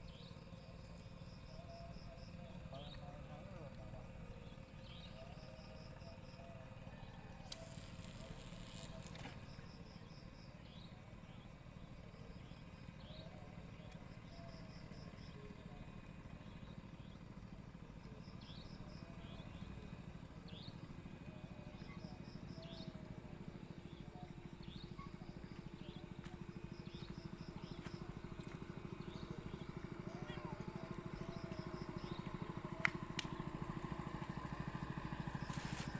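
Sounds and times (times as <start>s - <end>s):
insect chirps: 0.0s - 3.0s, 3.7s - 35.9s
insects trilling: 0.0s - 35.9s
low steady hum: 0.0s - 35.9s.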